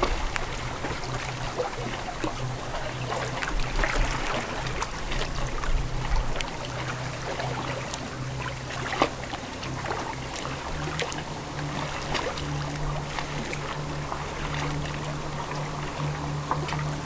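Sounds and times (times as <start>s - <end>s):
lake water lapping: 0.0s - 17.0s
low steady drone: 0.0s - 17.0s.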